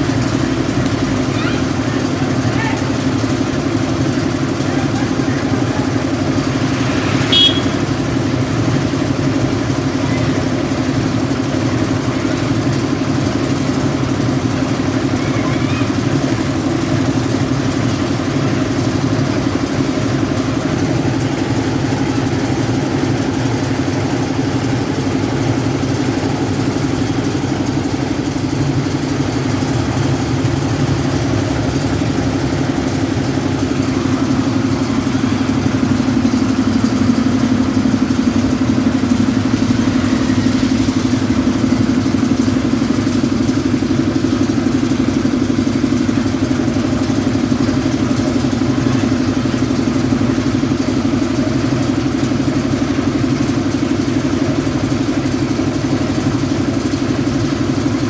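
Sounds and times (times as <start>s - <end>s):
concrete mixer engine running: 0.0s - 58.0s.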